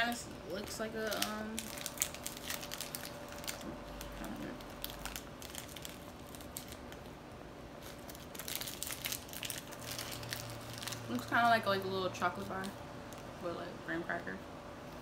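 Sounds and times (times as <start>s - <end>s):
plastic wrapper crinkling: 0.0s - 7.2s, 7.8s - 13.4s.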